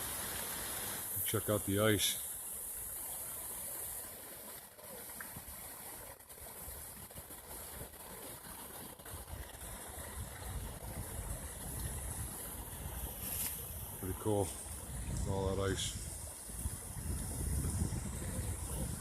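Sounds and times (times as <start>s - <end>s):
water rushing from pipe: 0.0s - 19.0s.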